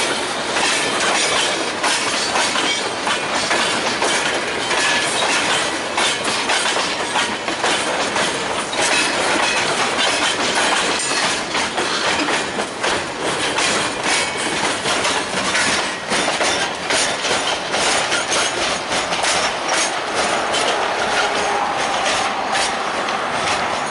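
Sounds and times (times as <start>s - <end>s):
steel wheels clattering over rail joints: 0.0s - 23.9s.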